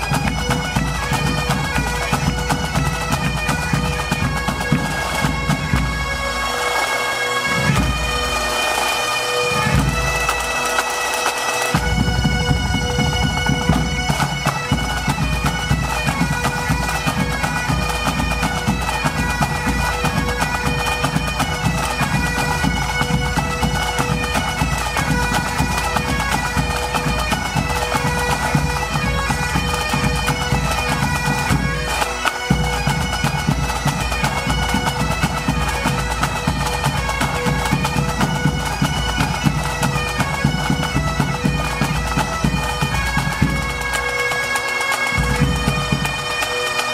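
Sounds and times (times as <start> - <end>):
tenor drum: 0.0 - 6.4, 7.5 - 46.9
bagpipes playing over a drone: 0.0 - 46.9.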